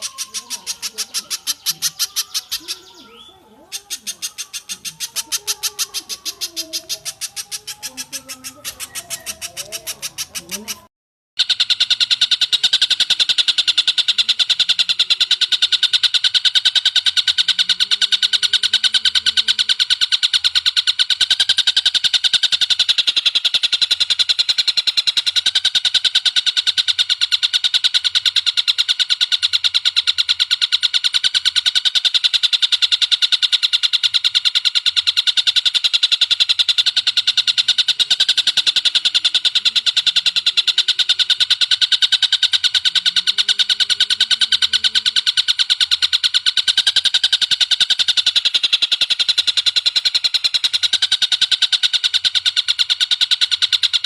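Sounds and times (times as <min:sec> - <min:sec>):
bird chattering and trilling: 0:00.0 - 0:54.0.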